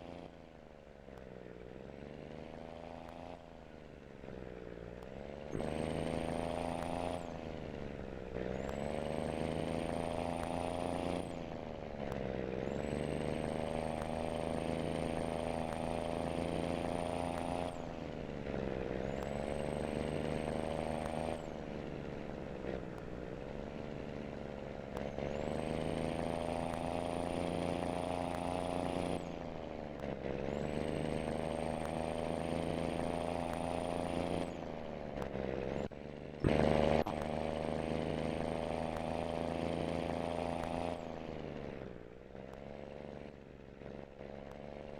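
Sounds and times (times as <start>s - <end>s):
truck engine pulling under load: 1.0s - 44.9s.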